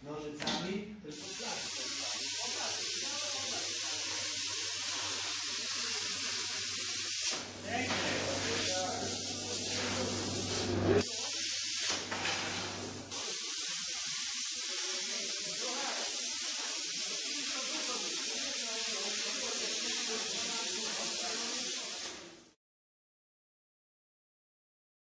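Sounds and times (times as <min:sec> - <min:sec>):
plasma cutter hissing: 0:01.1 - 0:22.6.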